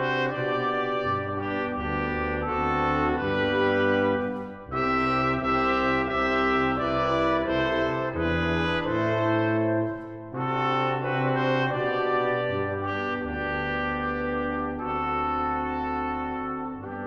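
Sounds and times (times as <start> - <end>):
brass ensemble playing held chords: 0.0 - 17.0.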